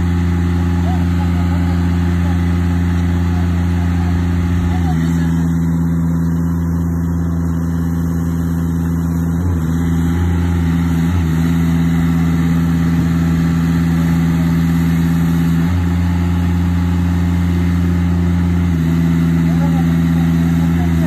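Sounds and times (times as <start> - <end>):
machine engine idling: 0.0 - 21.0.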